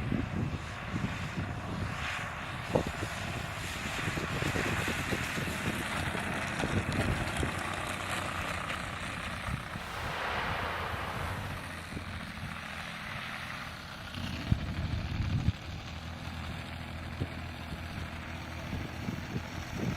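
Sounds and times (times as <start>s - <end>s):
model plane engine droning: 0.0s - 19.9s.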